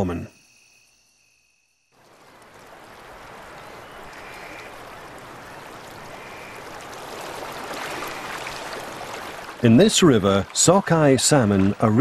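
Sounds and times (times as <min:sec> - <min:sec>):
river water rushing: 0:02.0 - 0:12.0.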